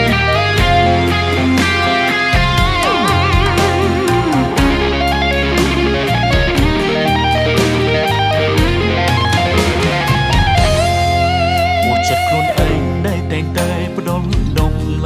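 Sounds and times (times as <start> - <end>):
pop-rock song with electric guitar: 0.0 - 15.0.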